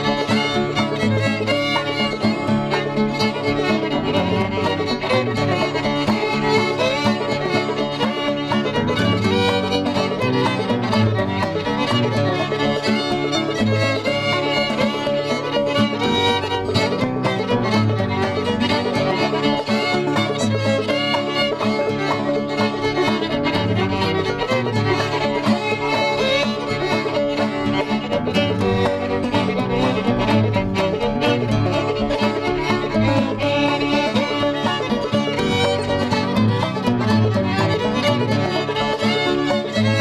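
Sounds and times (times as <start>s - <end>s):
instrumental background music: 0.0s - 40.0s.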